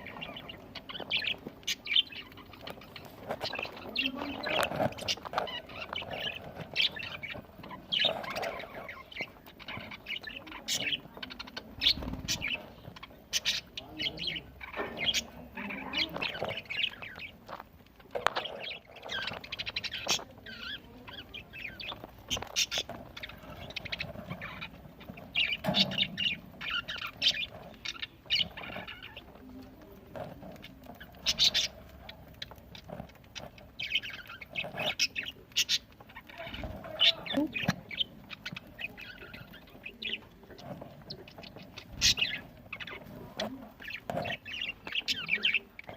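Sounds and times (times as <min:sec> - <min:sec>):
budgerigars chirping: 0:00.0 - 0:45.9.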